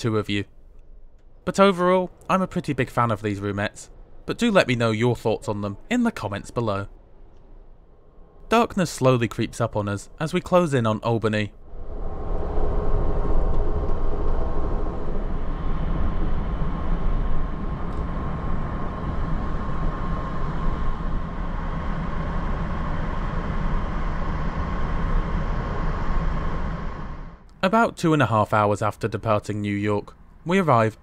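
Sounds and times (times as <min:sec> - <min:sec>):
faint high steady hum: 0:00.0 - 0:31.0.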